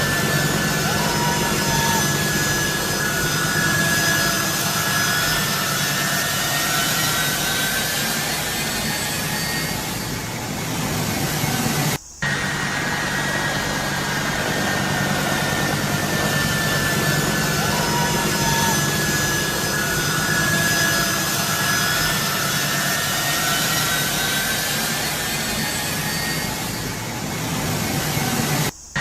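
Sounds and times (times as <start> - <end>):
jet engines roaring with whine: 0.0 - 29.0.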